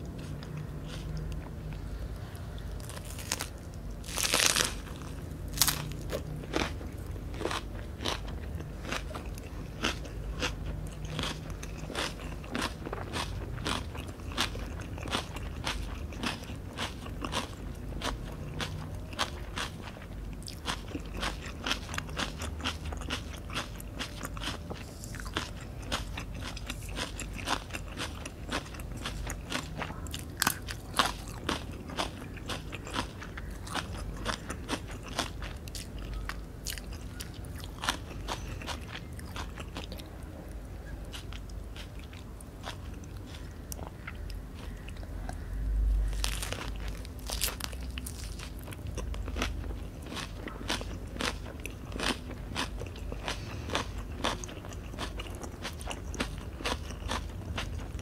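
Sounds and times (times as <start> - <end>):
chewing crunchy food: 0.0 - 58.0.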